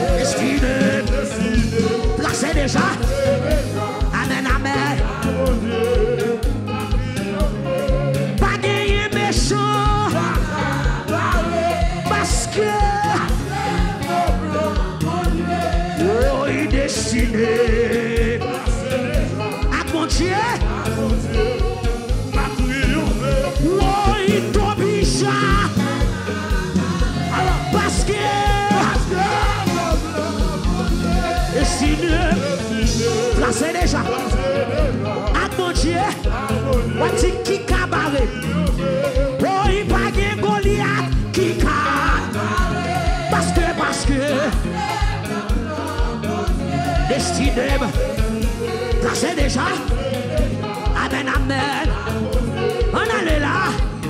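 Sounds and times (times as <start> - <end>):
steady drum beat: 0.0 - 54.0
upbeat gospel band playing: 0.0 - 54.0
voices singing: 0.0 - 54.0.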